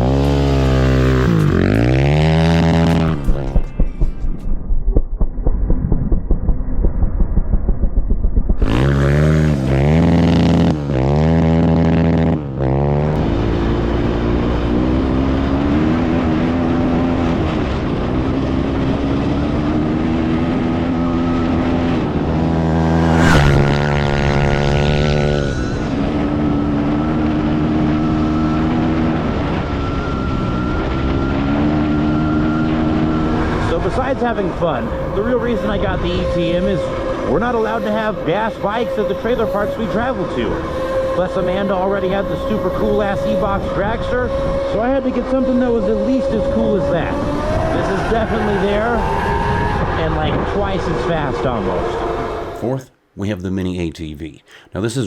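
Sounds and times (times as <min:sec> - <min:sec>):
dirt bike engine revving: 0:00.0 - 0:04.5, 0:08.5 - 0:52.6.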